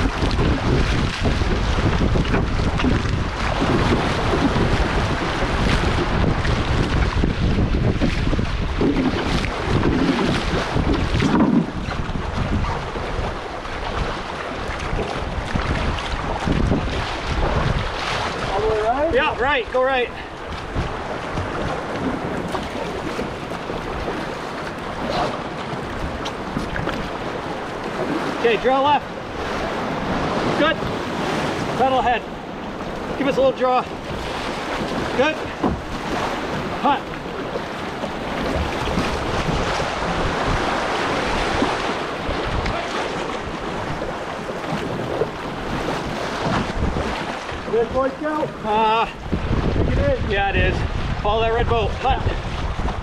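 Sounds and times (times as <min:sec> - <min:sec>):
wind noise on microphone: 0:00.0 - 0:28.5, 0:34.0 - 0:53.0
whitewater rapids rushing: 0:00.0 - 0:53.0.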